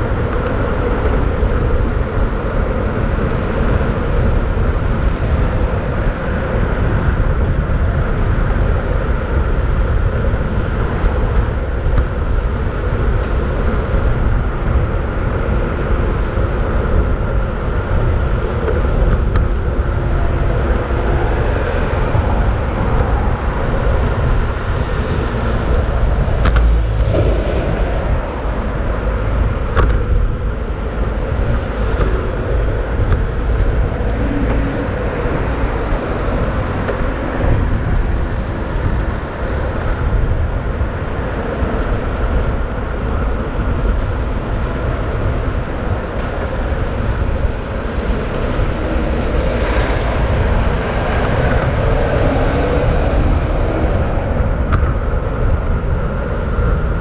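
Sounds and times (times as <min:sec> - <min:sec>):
city traffic rumble: 0:00.0 - 0:57.0
wind on microphone: 0:00.0 - 0:57.0.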